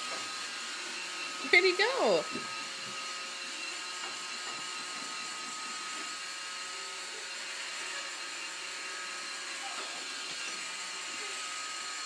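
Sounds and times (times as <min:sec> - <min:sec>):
robot vacuum motor whir: 0:00.0 - 0:12.0.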